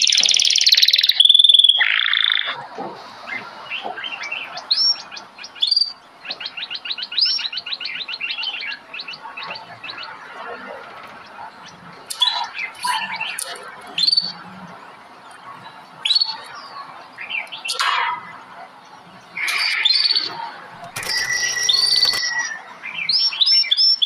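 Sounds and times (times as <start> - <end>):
birds chirping and whistling: 0.0 - 24.0.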